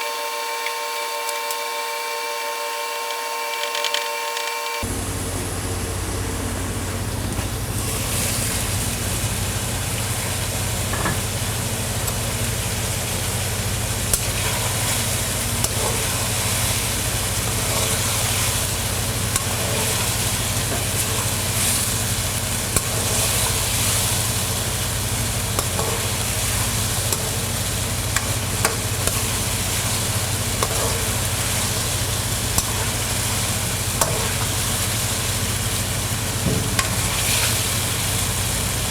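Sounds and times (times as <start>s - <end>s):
food sizzling in a pan: 6.7s - 38.9s.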